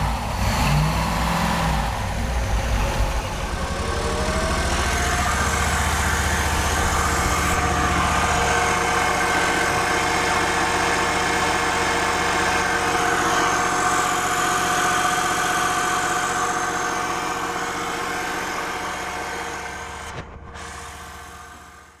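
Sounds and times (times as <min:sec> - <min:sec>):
boat engine idling: 0:01.8 - 0:22.0.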